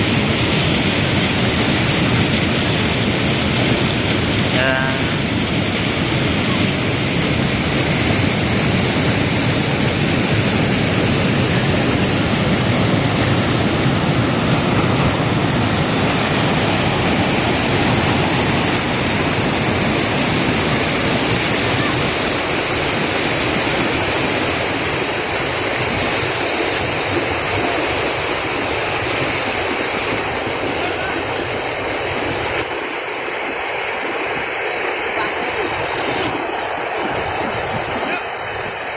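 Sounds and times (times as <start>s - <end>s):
river rapids roaring over rocks: 0.0s - 38.9s.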